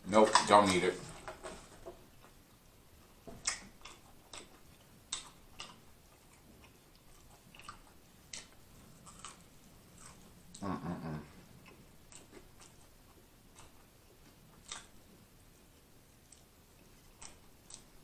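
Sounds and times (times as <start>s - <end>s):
chewing chicken wings: 1.9s - 18.0s.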